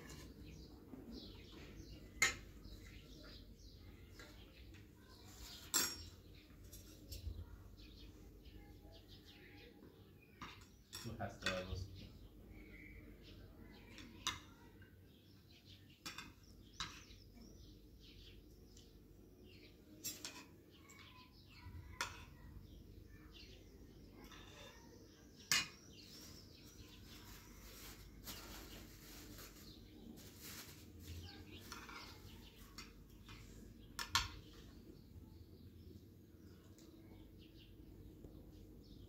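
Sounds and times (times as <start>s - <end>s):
birds chirping faintly: 0.0s - 39.0s.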